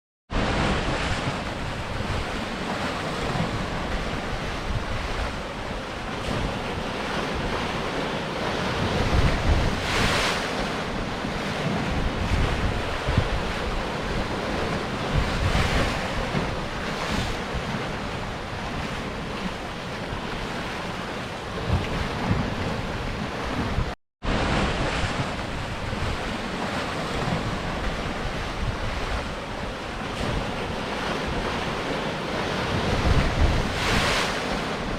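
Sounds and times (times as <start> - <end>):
sea surf breaking against rocks: 0.3 - 34.9.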